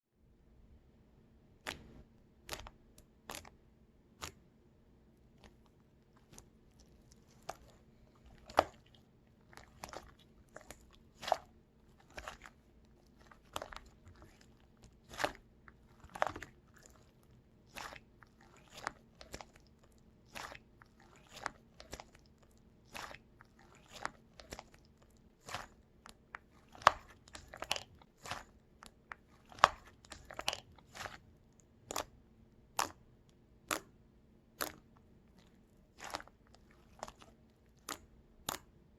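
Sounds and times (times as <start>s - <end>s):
crunchy food being chewed: 1.7s - 3.6s, 5.3s - 33.0s, 34.6s - 38.7s.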